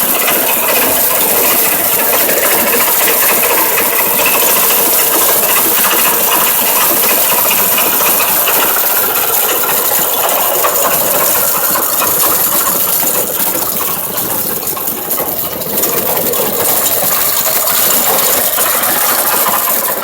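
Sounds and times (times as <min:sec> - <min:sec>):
harvesting machine clattering: 0:00.0 - 0:20.0.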